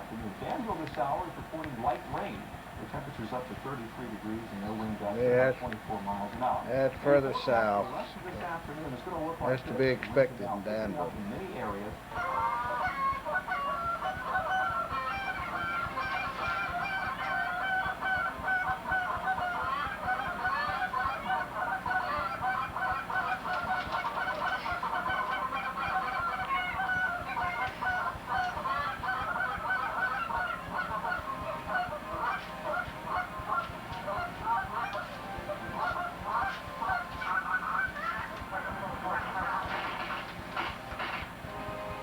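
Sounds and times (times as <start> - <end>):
many birds calling: 3.3 - 5.2, 5.9 - 8.1, 9.4 - 41.3.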